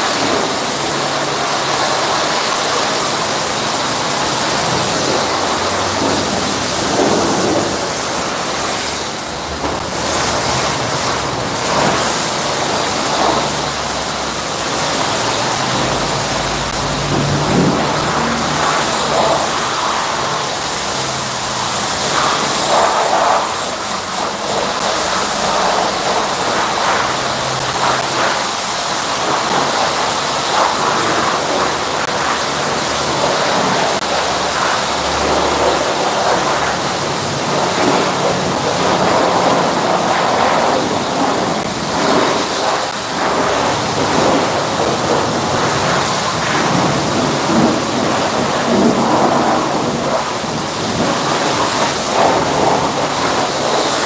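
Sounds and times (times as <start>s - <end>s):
pressure washer spraying car: 0.0s - 54.0s.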